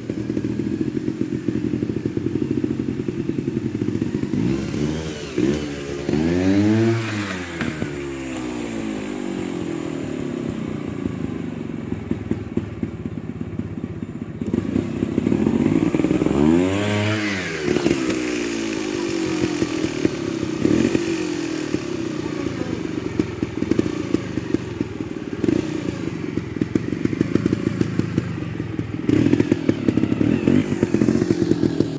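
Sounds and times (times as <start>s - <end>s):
engine clatter: 0.0s - 31.9s
motorcycle engine revving: 0.0s - 31.9s.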